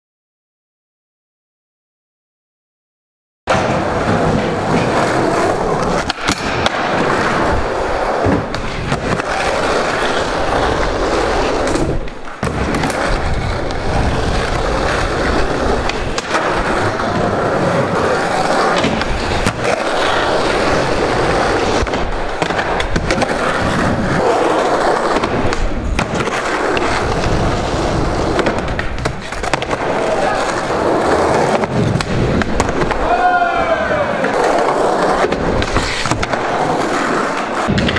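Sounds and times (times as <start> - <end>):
skateboard clacks: 3.5 - 37.9
skateboard wheels rolling: 3.5 - 37.9.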